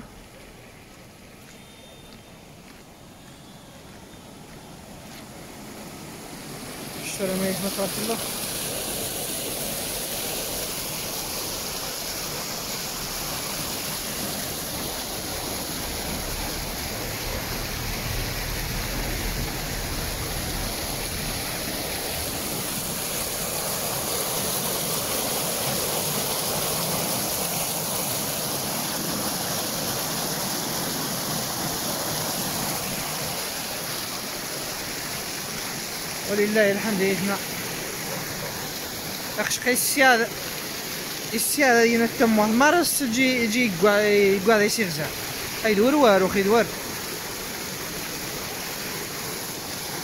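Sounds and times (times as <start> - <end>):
floodwater rushing over concrete: 0.0 - 50.0.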